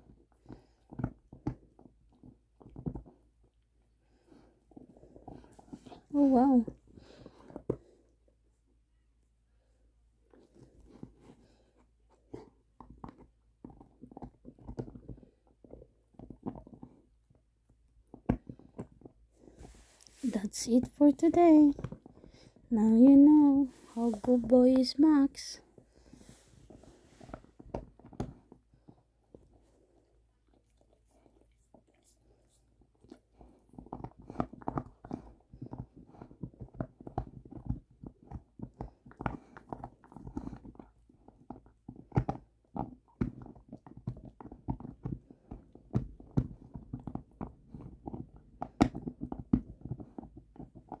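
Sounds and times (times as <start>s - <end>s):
dog gnawing a bone: 0.0s - 8.3s, 10.2s - 19.8s, 21.2s - 22.7s, 25.8s - 51.0s.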